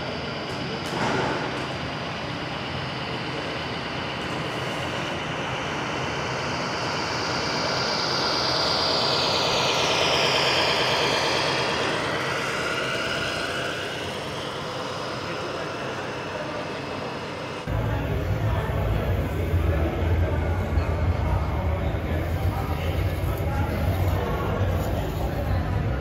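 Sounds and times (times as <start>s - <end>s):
toy truck running with high whine: 1.6s - 26.0s.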